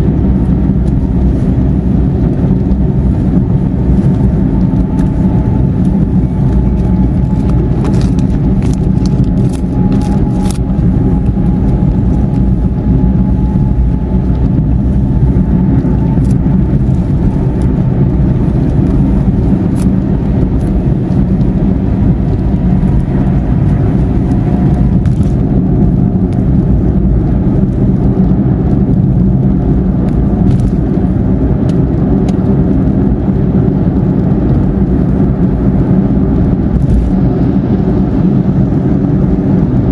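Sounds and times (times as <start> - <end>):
car cruising on highway: 0.0 - 39.9.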